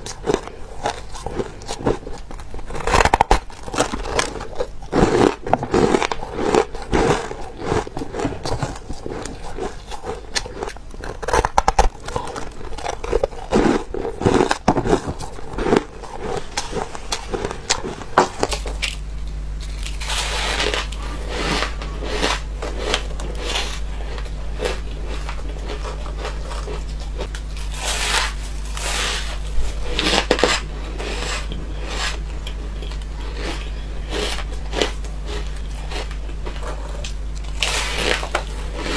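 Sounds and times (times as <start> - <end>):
ice being crunched and chewed: 0.0 - 38.9
steady low hum: 0.0 - 38.9.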